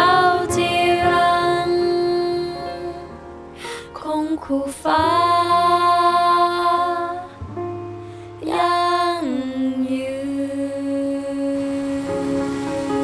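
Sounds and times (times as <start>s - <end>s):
person singing slow song: 0.0s - 7.5s, 8.2s - 13.0s
soft accompaniment: 0.0s - 13.0s.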